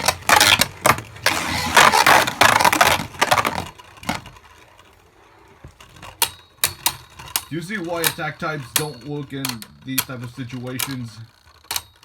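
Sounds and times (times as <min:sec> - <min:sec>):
spinning tops clacking: 0:00.0 - 0:12.0
spinning tops scraping whir: 0:00.0 - 0:12.0.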